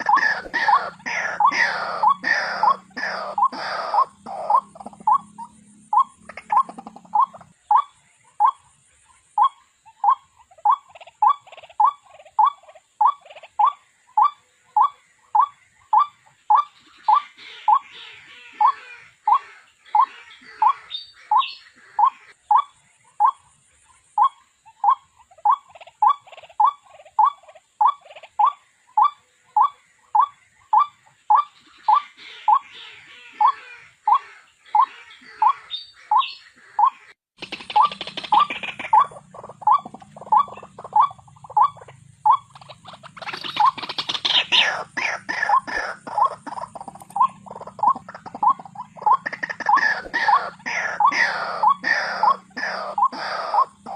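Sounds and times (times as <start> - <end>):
waterhen calling: 0.0 - 53.9.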